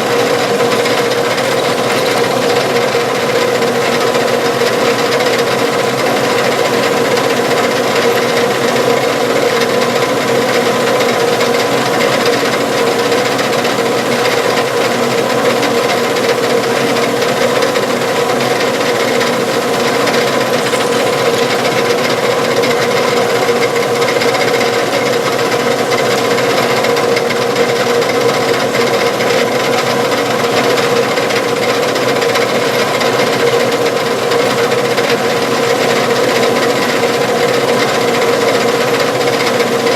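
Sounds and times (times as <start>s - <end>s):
drill boring through metal: 0.0s - 39.9s.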